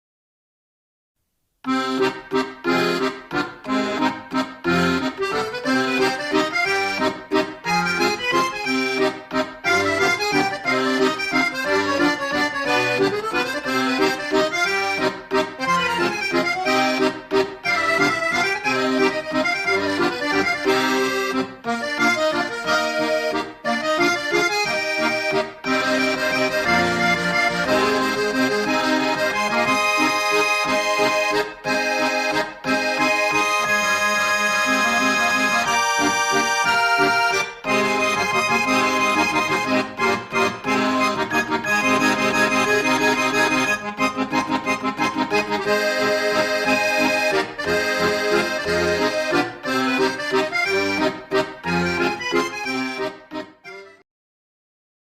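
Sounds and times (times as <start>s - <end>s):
accordion waltz: 1.7s - 54.0s.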